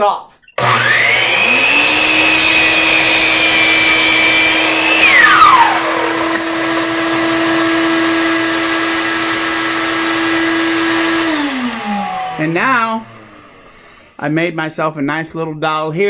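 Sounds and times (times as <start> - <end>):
chop saw whining: 0.6 - 13.8
shop vacuum humming: 0.6 - 14.2.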